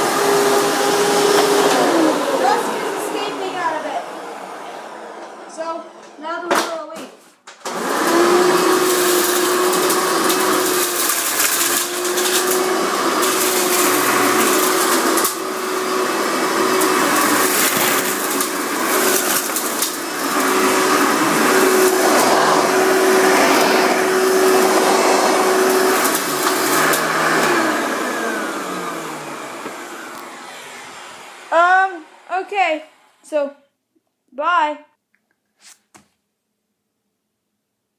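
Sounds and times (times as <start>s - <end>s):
vacuum cleaner running: 0.0s - 6.2s, 7.6s - 33.2s.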